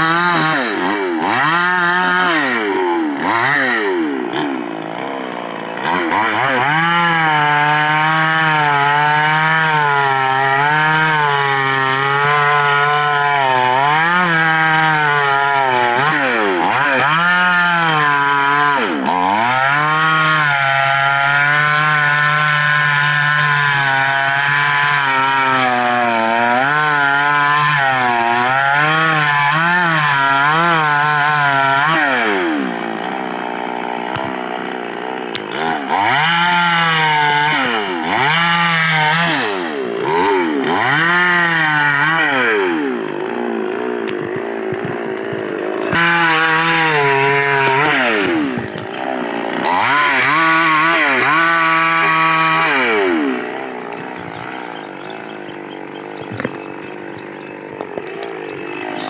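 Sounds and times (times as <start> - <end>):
chainsaw cutting and revving: 0.0 - 59.0.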